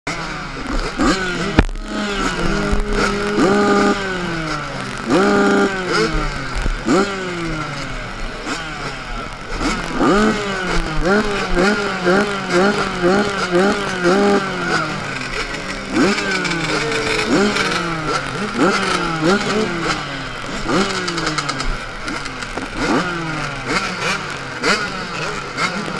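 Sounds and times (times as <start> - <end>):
motorbikes revving: 0.1 - 25.9.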